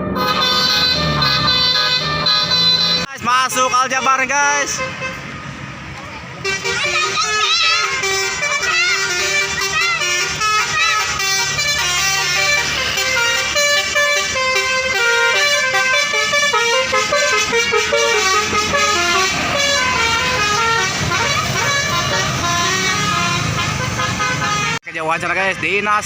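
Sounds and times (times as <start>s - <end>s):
musical bus horn playing a tune: 0.0s - 5.3s, 6.4s - 24.8s
bus engine running: 0.0s - 24.8s.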